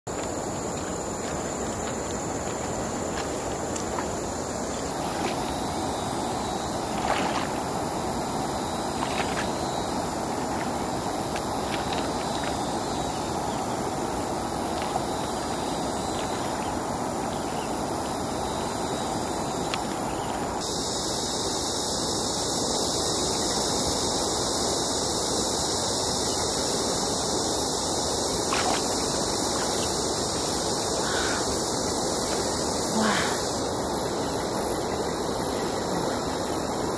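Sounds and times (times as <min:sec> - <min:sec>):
river water flowing: 0:00.1 - 0:20.6, 0:27.2 - 0:36.9.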